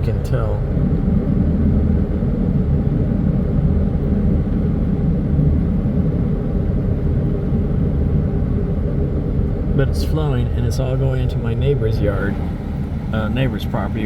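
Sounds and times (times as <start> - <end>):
van engine rumbling: 0.0 - 14.0.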